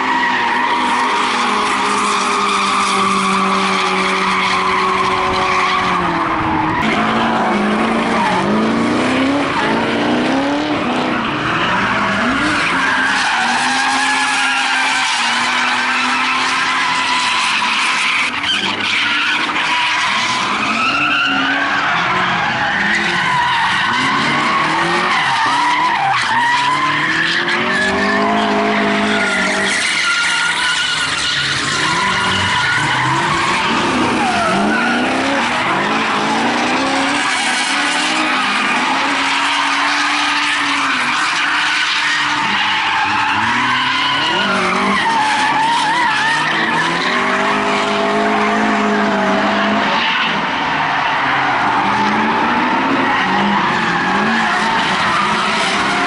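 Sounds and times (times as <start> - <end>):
car engines revving: 0.0 - 56.0
tyres skidding and squealing: 0.0 - 56.0.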